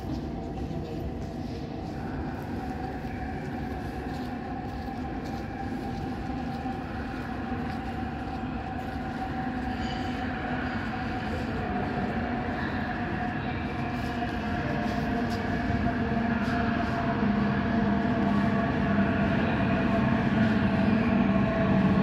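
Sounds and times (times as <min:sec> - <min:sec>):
metro train rumbling and humming: 0:00.0 - 0:22.0.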